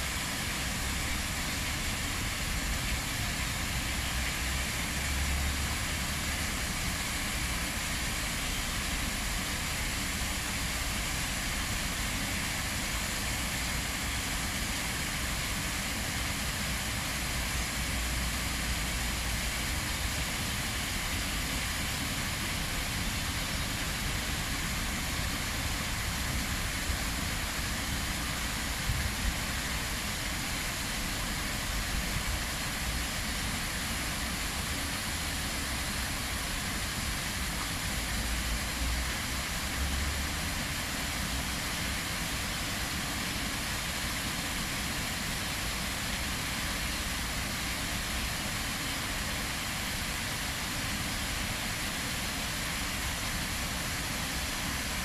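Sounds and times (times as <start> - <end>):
waterfall rushing over rocks: 0.0 - 55.0.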